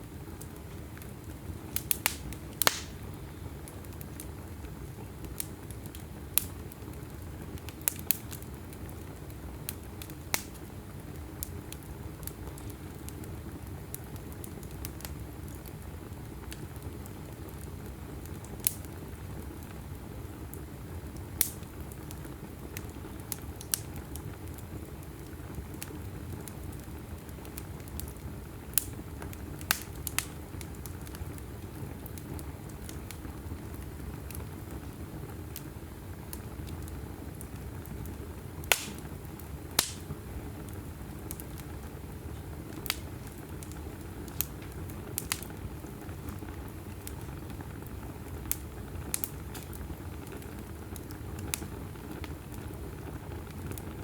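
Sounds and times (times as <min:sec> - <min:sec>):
fire crackling and popping: 0:00.0 - 0:54.0
wood logs burning in fireplace: 0:00.0 - 0:54.0.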